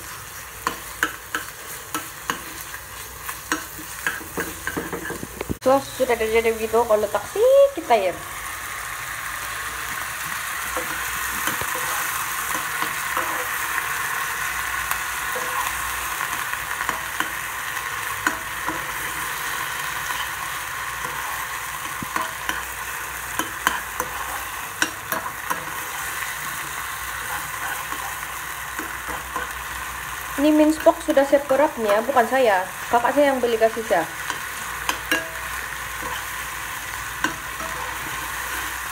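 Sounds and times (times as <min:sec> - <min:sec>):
metal spoon scraping a pan: 0:00.0 - 0:05.5, 0:10.2 - 0:32.3, 0:33.0 - 0:38.9
meat sizzling in a frying pan: 0:00.0 - 0:38.9.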